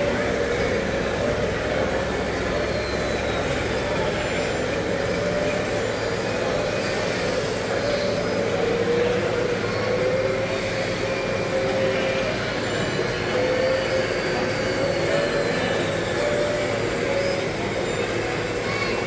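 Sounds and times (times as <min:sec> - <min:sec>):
motor whine: 0:00.0 - 0:19.0.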